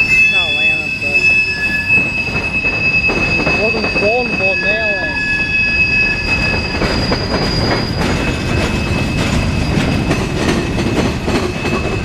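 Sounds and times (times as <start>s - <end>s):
wheels clacking over rail joints: 0.0s - 4.9s, 5.7s - 12.0s
high-pitched wheel squeal: 0.0s - 10.4s
freight train rumbling past: 0.0s - 12.0s.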